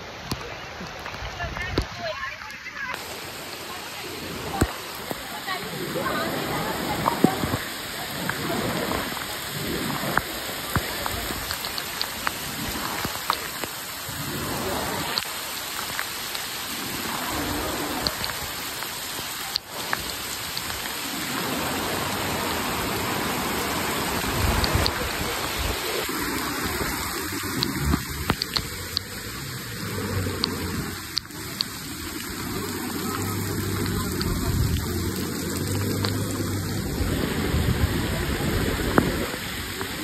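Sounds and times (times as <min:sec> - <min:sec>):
heavy rain on road: 0:00.0 - 0:40.0.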